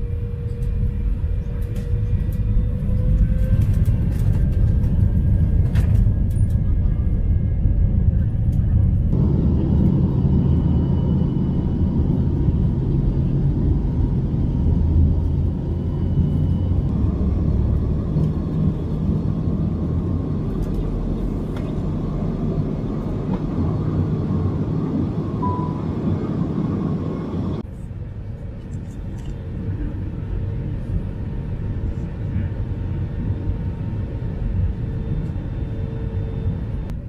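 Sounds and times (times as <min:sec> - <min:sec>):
jet engines rumbling from inside cabin: 0:00.0 - 0:37.0.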